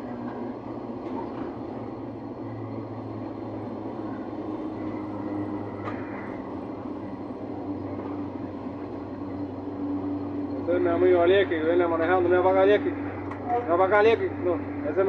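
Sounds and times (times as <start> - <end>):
diesel locomotive engine hum: 0.0 - 15.0
wheels rumbling on rails: 0.0 - 15.0.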